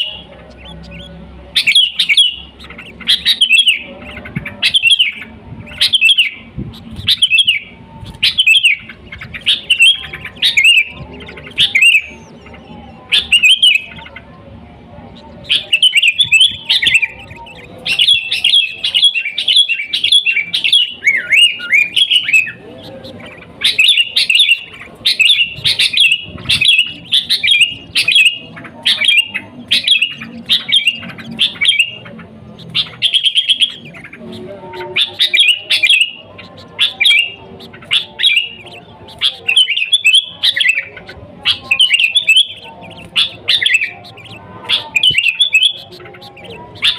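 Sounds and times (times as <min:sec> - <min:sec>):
bulbul chirping: 0:00.0 - 0:14.3, 0:15.0 - 0:46.9.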